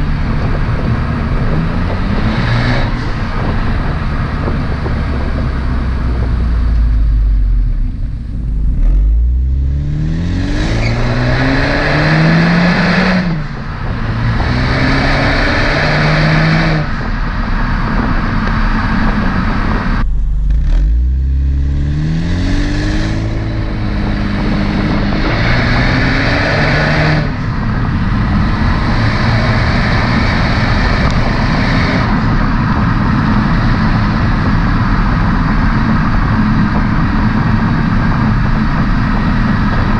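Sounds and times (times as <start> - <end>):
car exhaust accelerating hard: 0.0 - 39.9.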